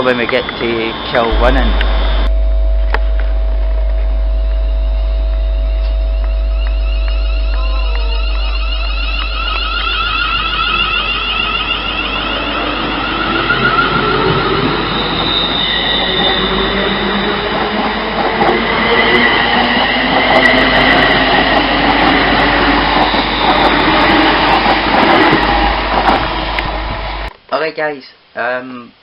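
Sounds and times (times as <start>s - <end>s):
train wheels rushing on rail: 0.0s - 2.3s, 5.9s - 27.3s
whining traction motors: 0.0s - 27.3s.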